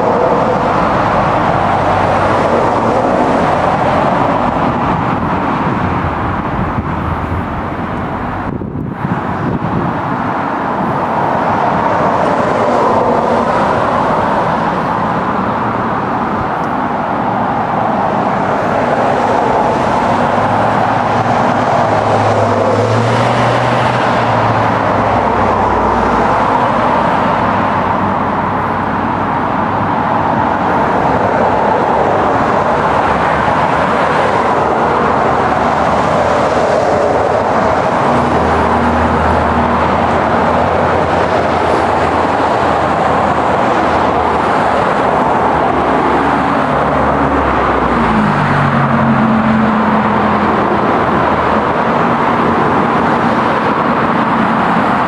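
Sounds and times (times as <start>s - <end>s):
moving train rumble: 0.0s - 55.0s.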